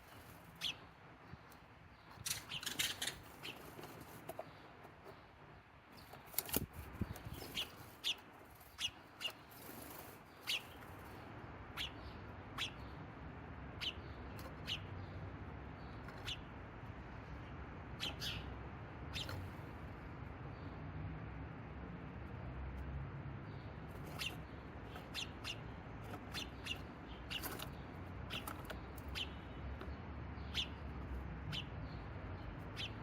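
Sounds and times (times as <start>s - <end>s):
small bird chirping: 0.0s - 20.8s, 23.4s - 33.0s.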